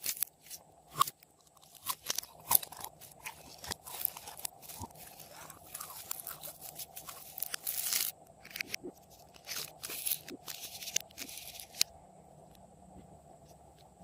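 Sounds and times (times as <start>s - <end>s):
hard candy crunching in slime: 0.0s - 11.8s.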